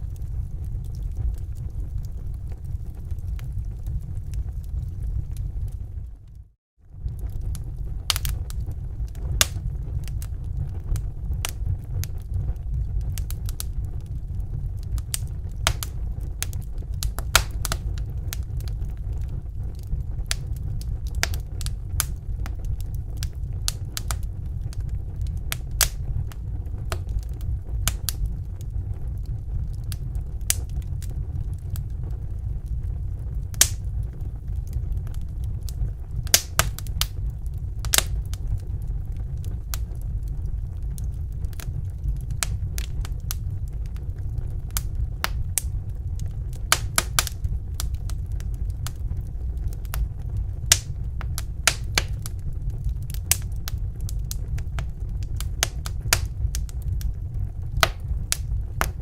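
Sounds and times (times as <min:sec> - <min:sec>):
fire pops and snaps: 0:00.0 - 0:59.0
low rumble of flames: 0:00.0 - 0:59.0.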